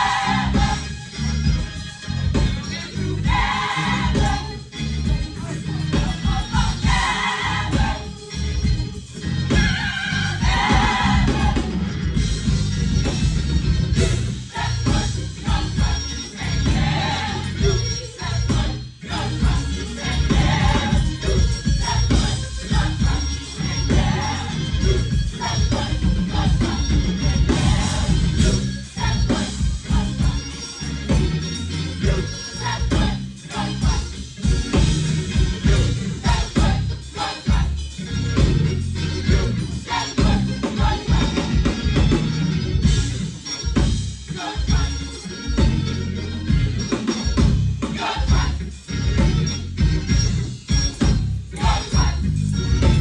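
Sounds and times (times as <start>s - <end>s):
people singing: 0.0s - 13.2s, 13.9s - 53.0s
heavy bass: 0.0s - 53.0s
live gospel band: 0.0s - 53.0s
steady drum beat: 0.0s - 53.0s.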